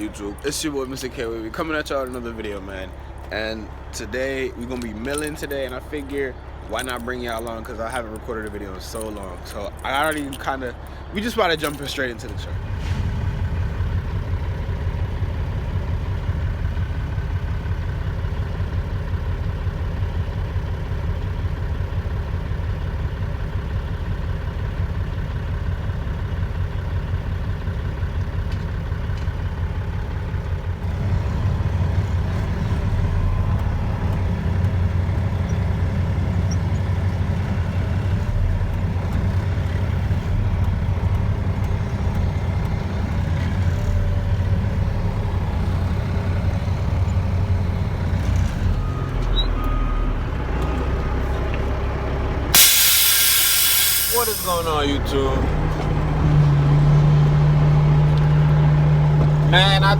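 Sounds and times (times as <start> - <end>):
diesel engine humming: 0.0 - 59.9.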